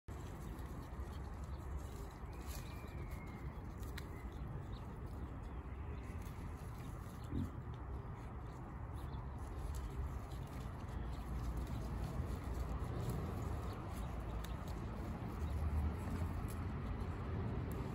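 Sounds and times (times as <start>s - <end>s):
steady low rumble: 0.1s - 17.9s.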